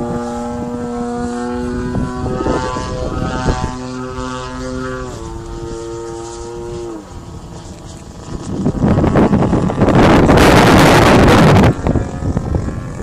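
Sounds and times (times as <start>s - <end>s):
model plane motor droning: 0.0s - 13.0s
wind buffeting microphone: 0.0s - 13.0s.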